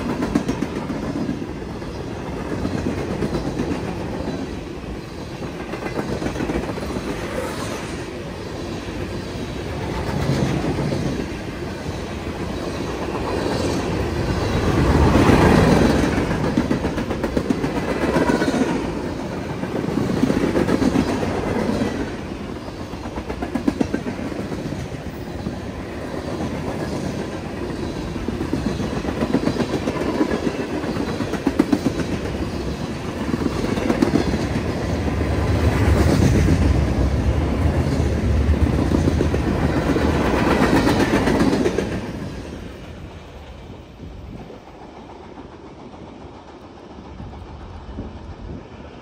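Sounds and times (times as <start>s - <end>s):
clickety-clack over rail joints: 0.0s - 49.0s
freight train wheels rumbling: 0.0s - 49.0s.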